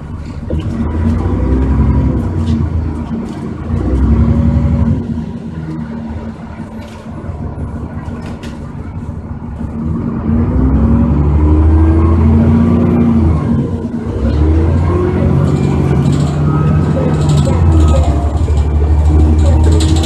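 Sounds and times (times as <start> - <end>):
bus diesel engine pulling away: 0.0 - 20.0.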